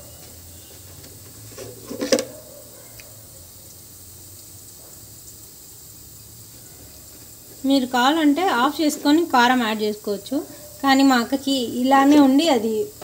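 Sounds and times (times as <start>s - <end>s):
seeds frying in oil: 0.0s - 13.0s.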